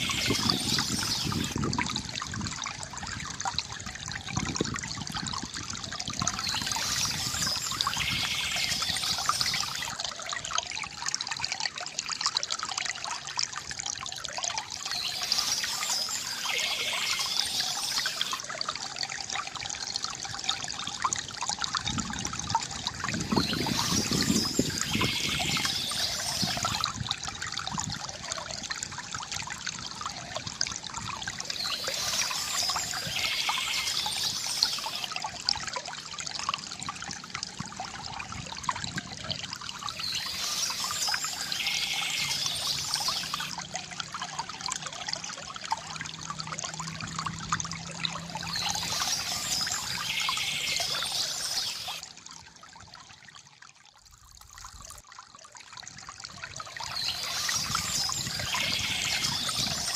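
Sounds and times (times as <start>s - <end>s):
water pouring into a basin: 0.0s - 59.9s.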